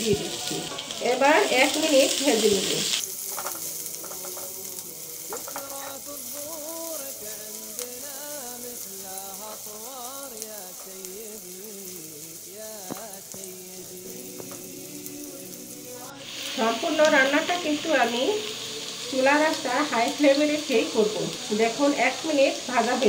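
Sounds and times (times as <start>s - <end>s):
spatula stirring in pan: 0.0s - 19.6s
onion sizzling in hot oil: 0.0s - 23.0s
soft background music: 0.0s - 23.0s.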